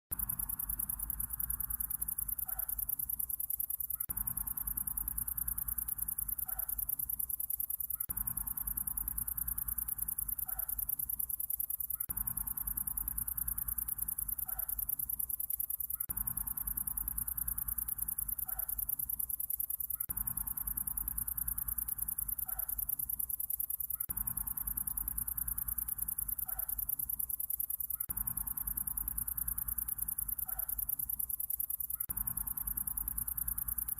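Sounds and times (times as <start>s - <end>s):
night insects trilling: 0.1s - 33.9s.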